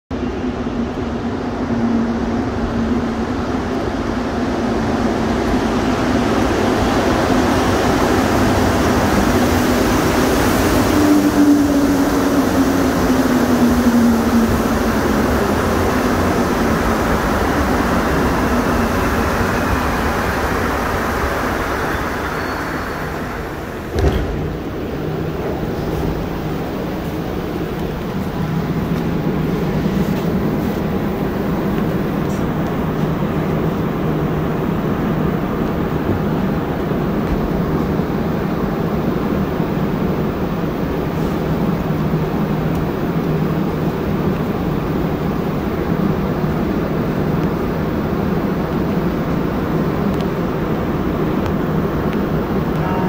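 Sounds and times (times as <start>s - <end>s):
train pulling into station: 0.1s - 53.0s.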